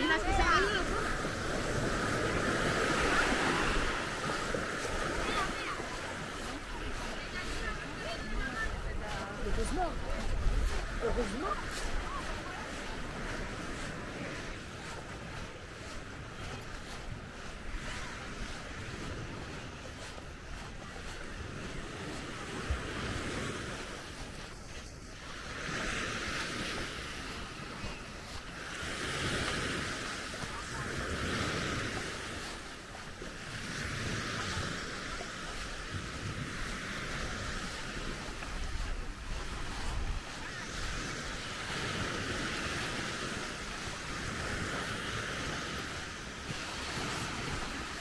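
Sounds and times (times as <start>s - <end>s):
surf hissing on beach: 0.0s - 48.0s
waves washing onto shore: 0.0s - 48.0s
wind rumbling on microphone: 0.0s - 48.0s.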